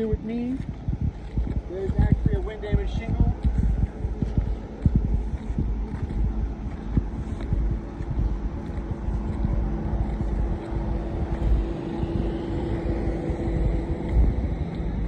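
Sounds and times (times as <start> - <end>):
steady hum: 0.0 - 15.0
wind buffeting microphone: 0.0 - 15.0.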